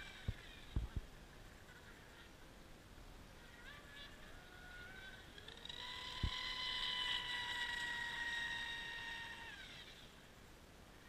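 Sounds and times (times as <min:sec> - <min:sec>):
muffled electric motor whine: 0:00.0 - 0:11.0.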